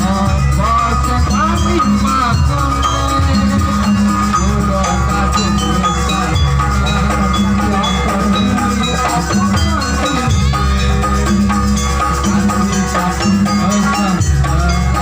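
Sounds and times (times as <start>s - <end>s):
drums: 0.0s - 15.0s
gamelan ensemble playing: 0.0s - 15.0s
struck metallophones: 0.0s - 15.0s.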